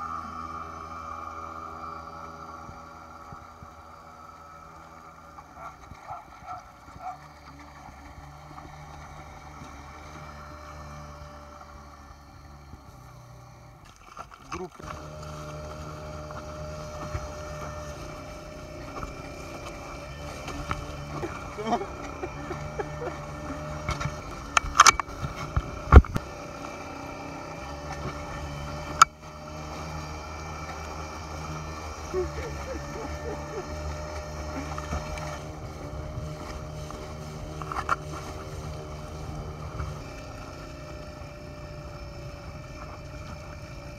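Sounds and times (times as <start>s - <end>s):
motor humming: 0.0s - 43.9s
water rushing: 0.0s - 43.9s.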